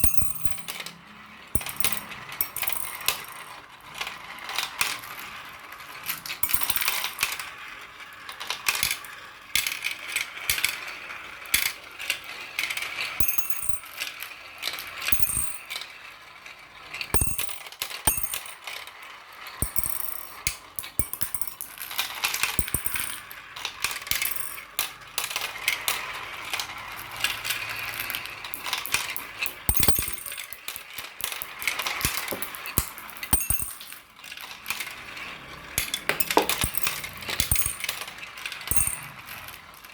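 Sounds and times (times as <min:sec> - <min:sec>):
marbles rolling and clattering: 0:00.0 - 0:16.2, 0:16.8 - 0:39.9.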